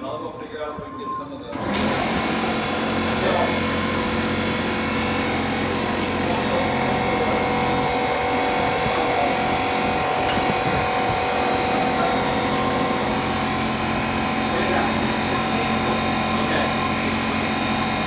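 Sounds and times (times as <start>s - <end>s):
diesel engine running: 1.6s - 18.0s.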